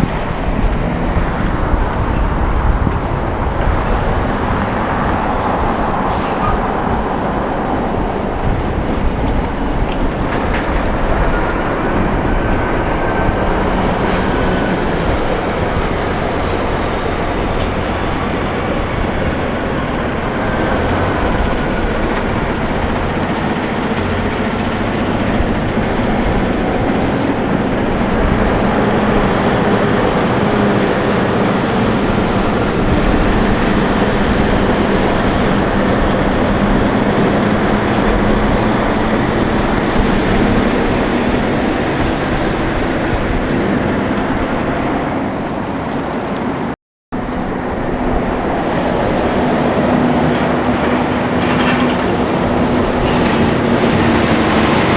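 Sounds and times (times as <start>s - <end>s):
trucks driving past: 0.0s - 54.9s.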